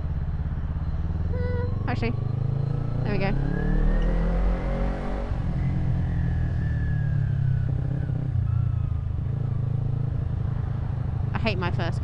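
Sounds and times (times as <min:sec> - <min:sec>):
motorcycle engine pulling away: 0:00.8 - 0:10.8.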